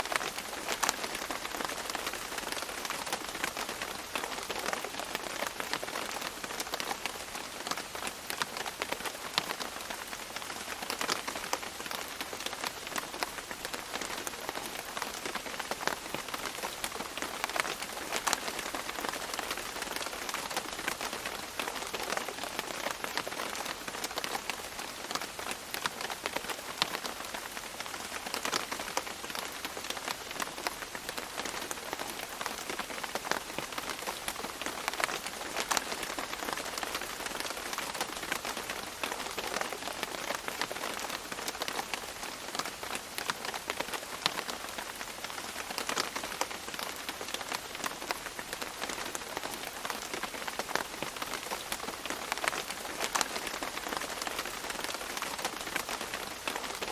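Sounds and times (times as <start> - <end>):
rain dripping on leaves: 0.0 - 56.9.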